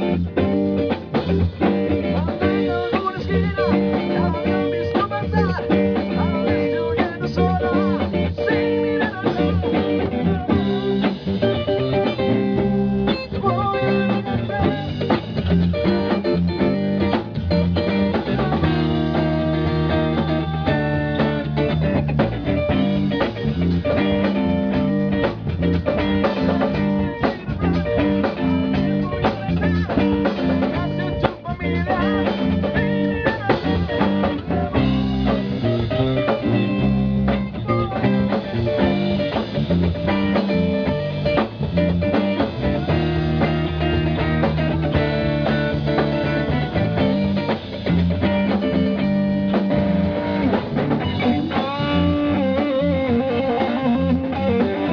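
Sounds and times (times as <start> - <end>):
bass line: 0.0 - 54.9
drum kit: 0.0 - 54.9
guitars: 0.0 - 54.9.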